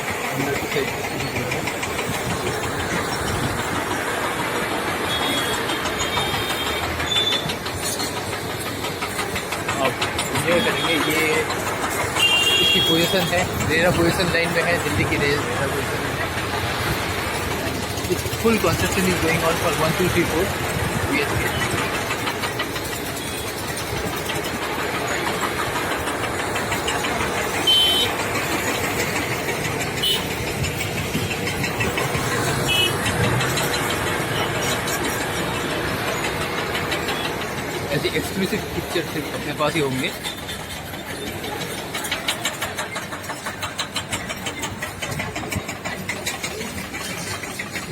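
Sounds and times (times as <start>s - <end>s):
engine running with rapid ticking: 0.0s - 47.9s
road traffic noise: 0.0s - 47.9s.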